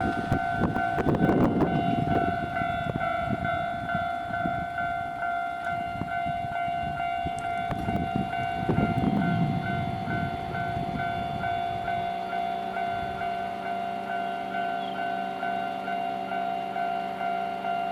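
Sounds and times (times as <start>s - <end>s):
train rumble and wheel clatter: 0.0s - 17.9s.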